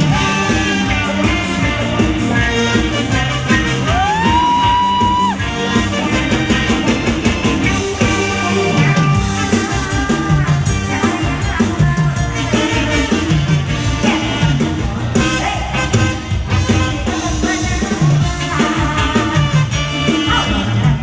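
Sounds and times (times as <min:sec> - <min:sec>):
folk band dance music: 0:00.0 - 0:21.0.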